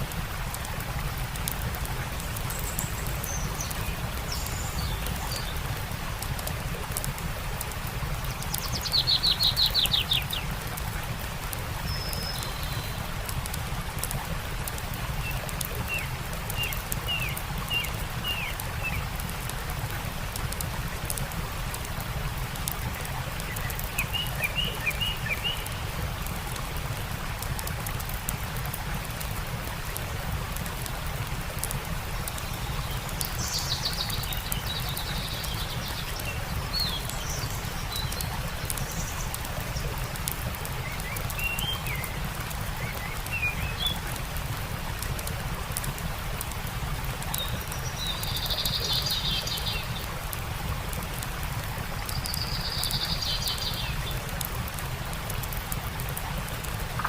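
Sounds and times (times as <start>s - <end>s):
campfire crackling: 0.0s - 57.0s
stream rushing: 0.0s - 57.0s
songbirds chirping: 0.3s - 27.0s, 30.9s - 44.6s, 45.7s - 57.0s.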